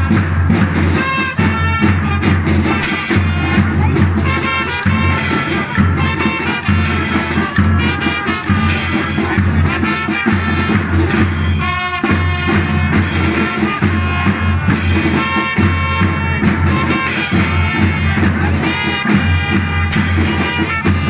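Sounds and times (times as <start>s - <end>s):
marching drums and cymbals: 0.0s - 21.0s
trumpets playing melody: 0.0s - 21.0s.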